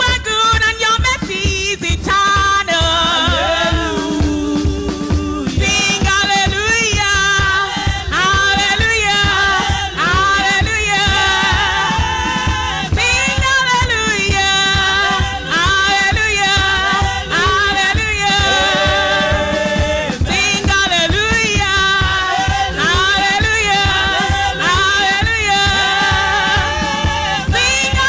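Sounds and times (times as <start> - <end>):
backing music with beat: 0.0 - 28.0
woman singing: 0.0 - 28.0.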